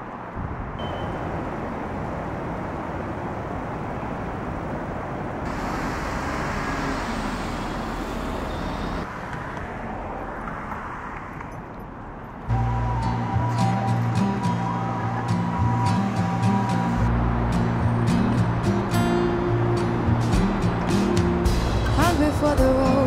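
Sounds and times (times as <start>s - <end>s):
road traffic hiss: 0.0s - 23.0s.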